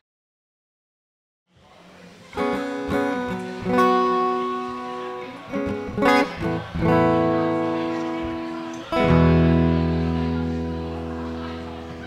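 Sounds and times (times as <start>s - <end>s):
acoustic guitar strumming: 2.3s - 12.0s.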